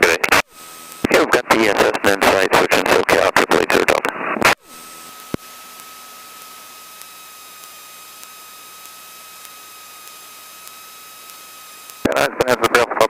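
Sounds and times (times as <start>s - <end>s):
faint high whine: 0.0s - 13.0s
radio line hiss: 0.0s - 13.0s.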